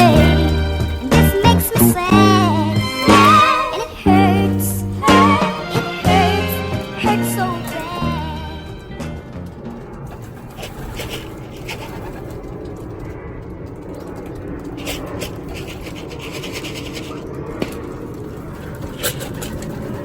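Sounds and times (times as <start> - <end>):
pigeons scratching and rustling: 0.0 - 20.0.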